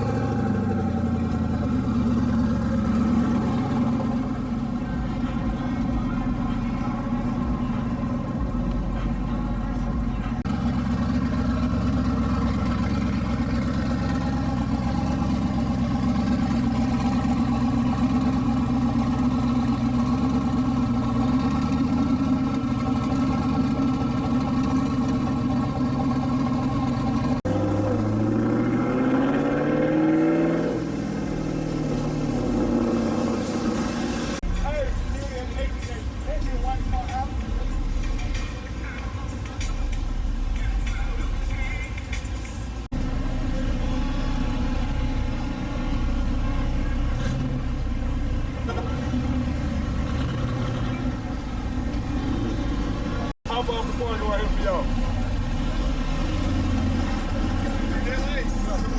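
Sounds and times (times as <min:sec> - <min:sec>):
engine revving: 0:00.0 - 0:34.6, 0:42.8 - 0:58.9
car engine idling: 0:00.0 - 0:58.9.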